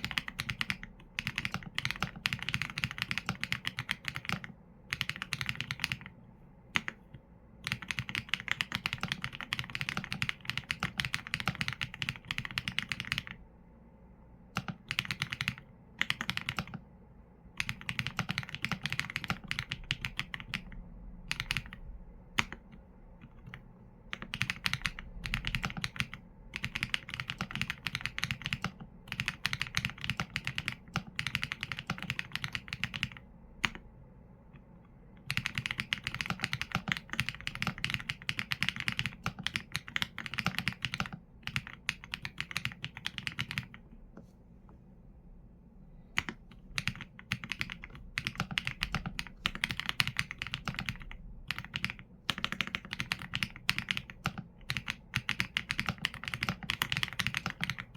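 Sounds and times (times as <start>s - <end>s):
mechanical keyboard typing: 0.0s - 6.1s, 6.7s - 7.0s, 7.6s - 13.4s, 14.6s - 16.8s, 17.6s - 33.8s, 35.2s - 43.8s, 46.2s - 57.9s.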